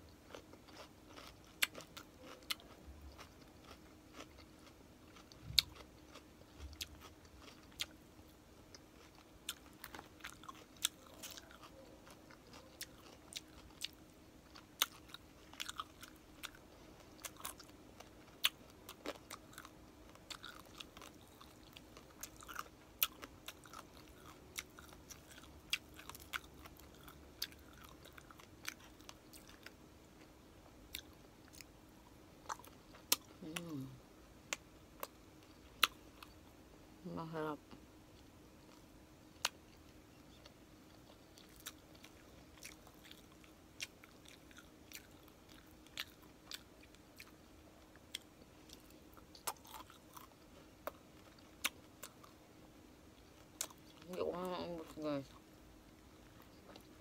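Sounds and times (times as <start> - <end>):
person chewing crispy food: 0.1 - 31.8, 32.4 - 36.4, 38.1 - 52.5, 53.1 - 57.0.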